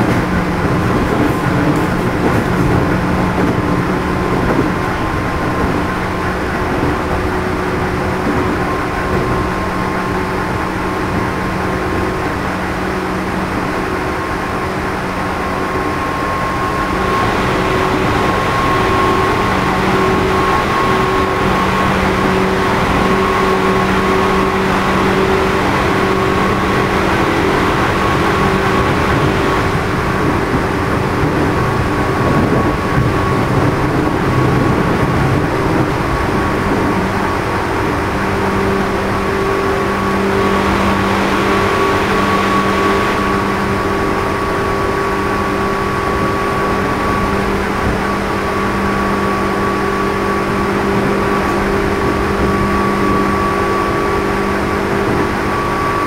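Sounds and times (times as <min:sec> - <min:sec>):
train motor whine: 0:00.0 - 0:56.0
wheels rumbling on rail: 0:00.0 - 0:56.0.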